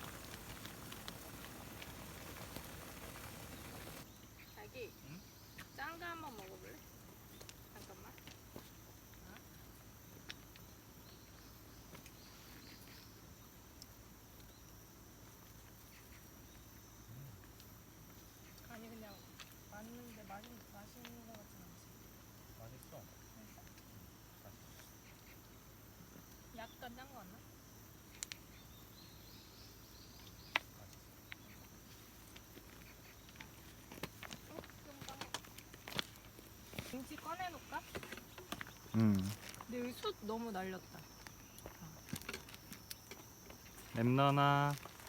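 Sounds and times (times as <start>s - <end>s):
crickets chirring: 0.0s - 45.0s.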